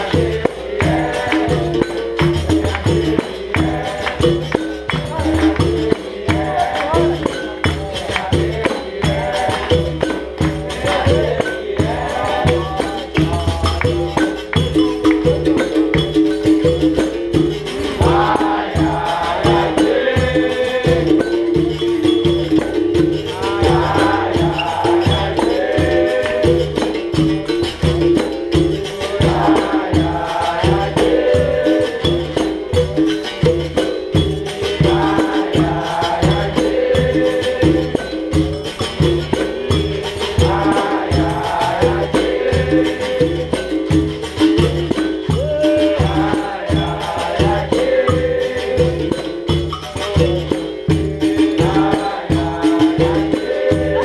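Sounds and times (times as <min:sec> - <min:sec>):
group singing: 0:00.0 - 0:54.0
hand drum rhythm: 0:00.0 - 0:54.0
shaker rattle: 0:00.0 - 0:54.0
tambourine rhythm: 0:00.0 - 0:54.0.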